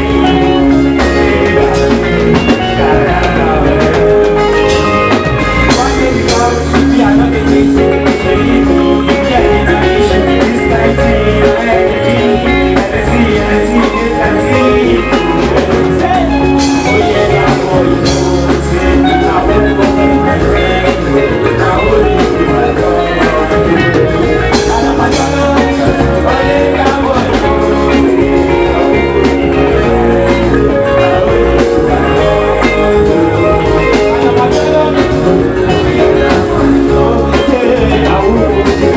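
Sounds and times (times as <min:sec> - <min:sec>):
loud music with steady beat: 0:00.0 - 0:38.9.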